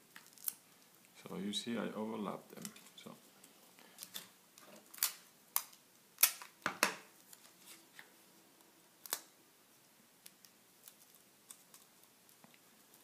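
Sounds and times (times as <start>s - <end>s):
tape rustling on paper: 0.0s - 1.2s, 2.3s - 8.2s, 9.0s - 13.0s.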